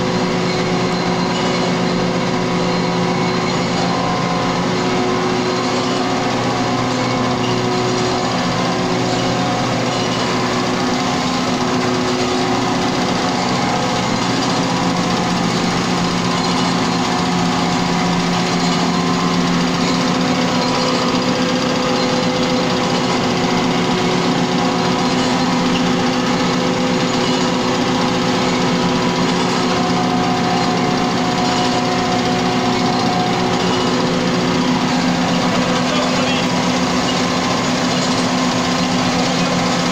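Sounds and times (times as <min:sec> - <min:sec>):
pulverizer grinding sawdust: 0:00.0 - 0:39.9.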